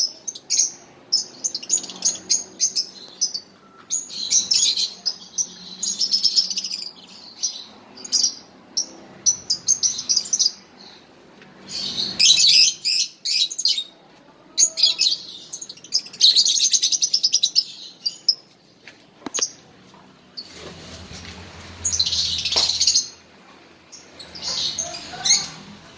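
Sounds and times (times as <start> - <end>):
songbird chirping: 0.0 - 25.9.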